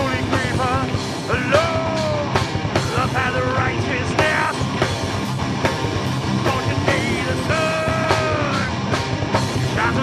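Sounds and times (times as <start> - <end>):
heavy rock band playing: 0.0 - 10.0.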